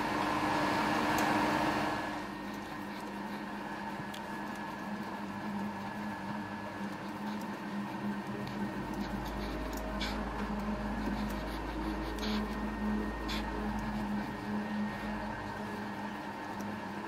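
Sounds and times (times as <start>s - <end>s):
lathe humming: 0.0s - 17.0s.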